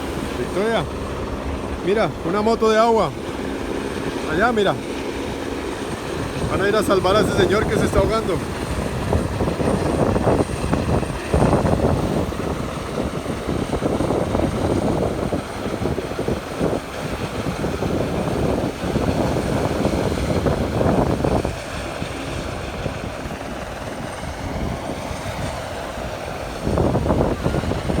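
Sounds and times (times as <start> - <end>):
helicopter rotor rumble: 0.0 - 28.0.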